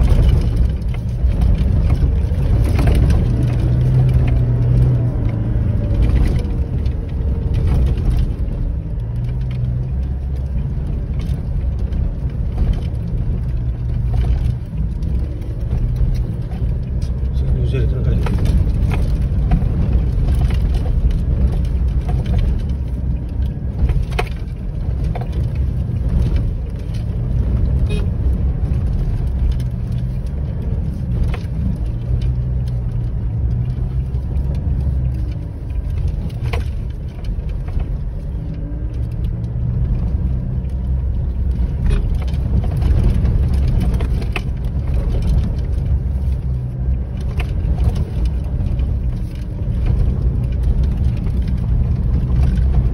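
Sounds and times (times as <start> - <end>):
engine and tyre rumble: 0.0 - 52.9
knocks and rattles: 0.0 - 52.9.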